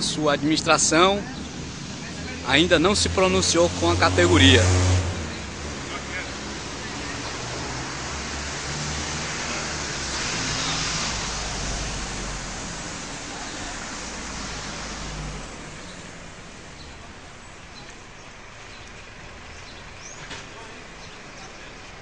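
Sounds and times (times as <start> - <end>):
vehicle passing: 0.0 - 21.3
quiet street background: 0.0 - 22.0.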